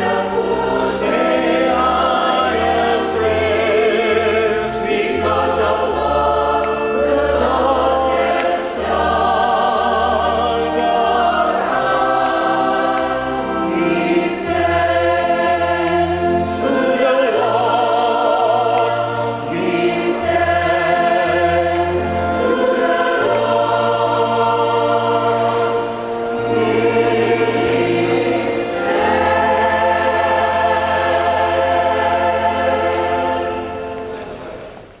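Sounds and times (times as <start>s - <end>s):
choir singing a hymn: 0.0s - 35.0s
organ: 0.0s - 35.0s.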